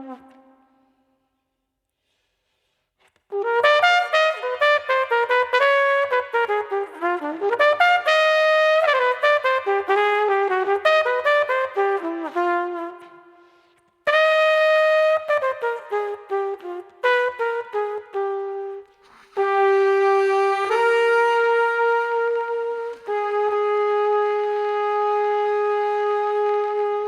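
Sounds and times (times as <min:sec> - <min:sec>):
saxophone playing jazz melody: 0:03.3 - 0:13.1, 0:14.1 - 0:27.0.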